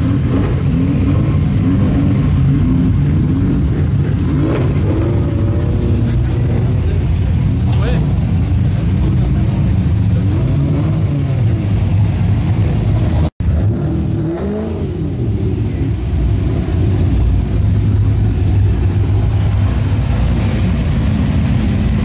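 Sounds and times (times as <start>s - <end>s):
cars driving past revving: 0.0s - 22.0s.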